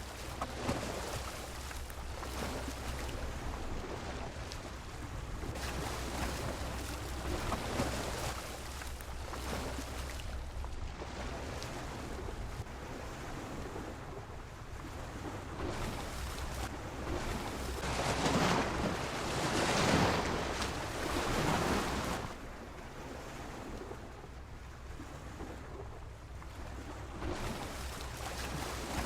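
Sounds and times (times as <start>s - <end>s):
sea waves washing against pier: 0.0s - 29.0s
wind rumble on microphone: 0.0s - 29.0s.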